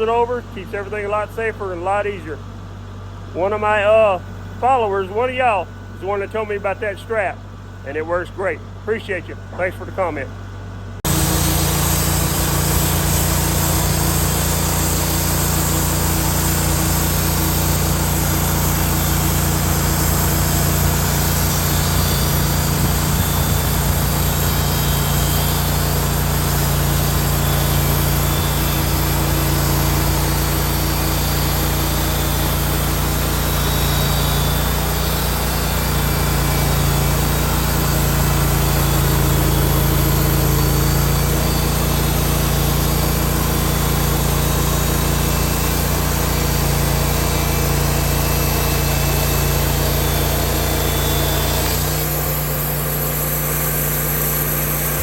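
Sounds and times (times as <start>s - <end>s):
band sawmill engine running: 0.0s - 55.0s.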